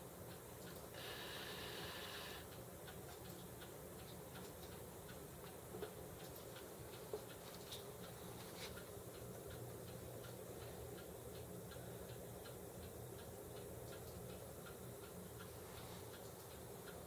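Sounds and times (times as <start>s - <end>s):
faint regular ticking: 0.0s - 17.0s.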